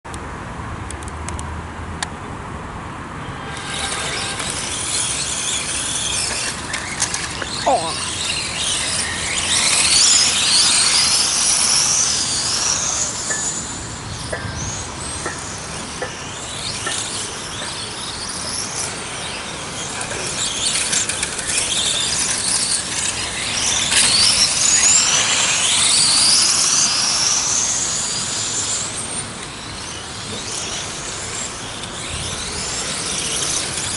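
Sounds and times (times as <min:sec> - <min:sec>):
rc car motors whining: 0:03.3 - 0:33.9.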